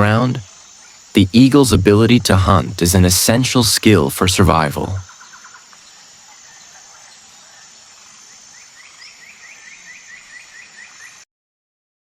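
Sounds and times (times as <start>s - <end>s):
bird chirping: 0.0s - 11.2s
high insect drone: 0.0s - 11.2s.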